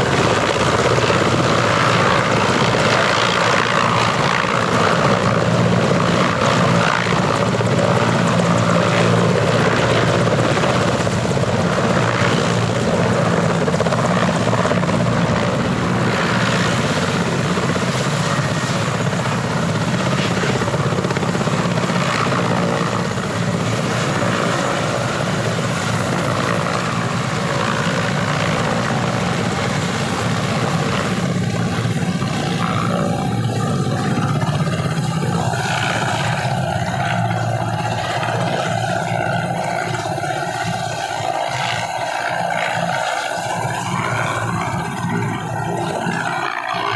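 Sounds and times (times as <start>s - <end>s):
helicopter engines and rotor: 0.0s - 46.9s.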